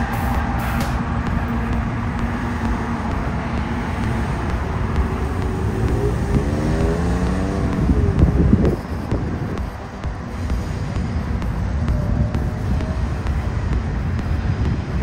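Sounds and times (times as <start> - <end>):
engine revving up: 0.0 - 14.9
cars driving past: 0.0 - 15.0.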